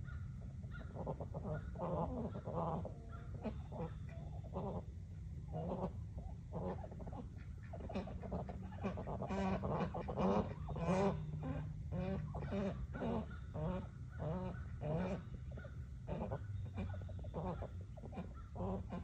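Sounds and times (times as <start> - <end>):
geese honking: 0.0 - 19.0
steady low hum: 0.0 - 19.0.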